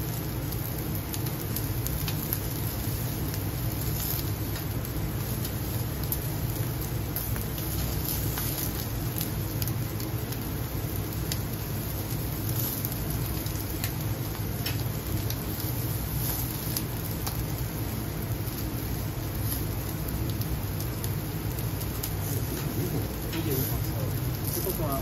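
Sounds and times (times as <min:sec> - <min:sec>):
skewers sizzling on grill: 0:00.0 - 0:25.0
small crackles and pops: 0:00.0 - 0:25.0
steady low hum: 0:00.0 - 0:25.0.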